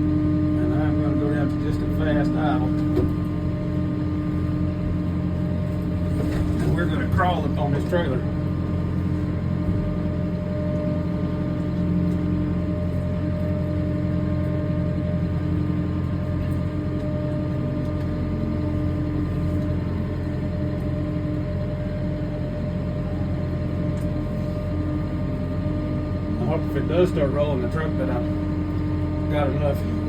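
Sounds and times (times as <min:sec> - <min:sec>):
tractor diesel engine idling: 0:00.0 - 0:30.0.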